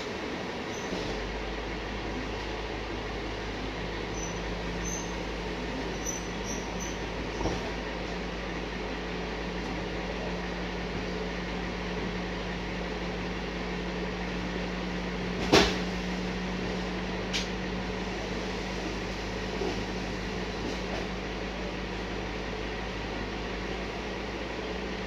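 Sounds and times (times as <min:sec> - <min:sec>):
truck engine and hydraulics hum: 0:00.0 - 0:25.0.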